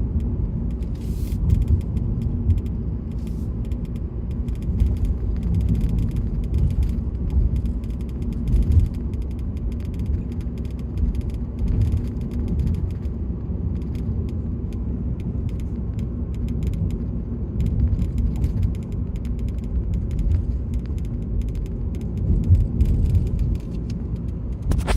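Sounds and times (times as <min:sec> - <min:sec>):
low road rumble: 0:00.0 - 0:24.9.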